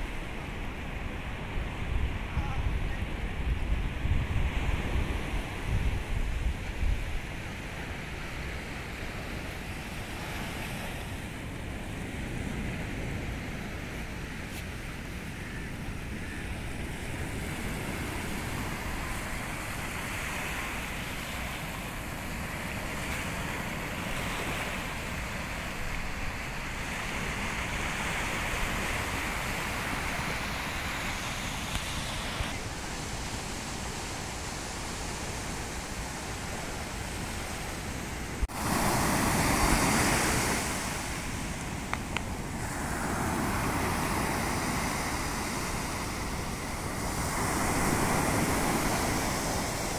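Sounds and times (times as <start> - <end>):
surf washing onto beach: 0.0 - 49.9.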